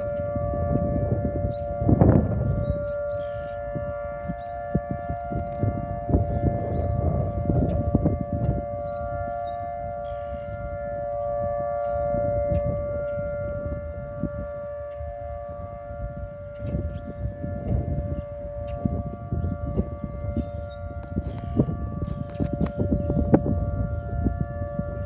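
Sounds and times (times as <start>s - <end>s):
tornado warning siren: 0.0s - 25.0s.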